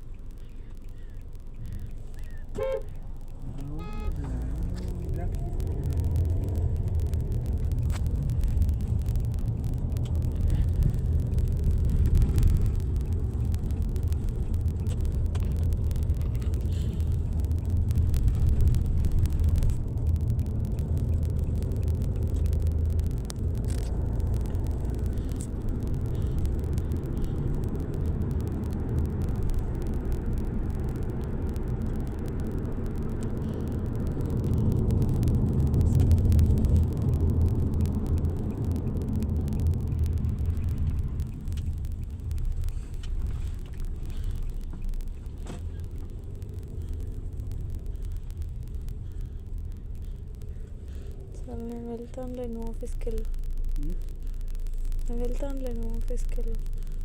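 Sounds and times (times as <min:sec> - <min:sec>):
car rumbling on the move: 0:00.0 - 0:57.0.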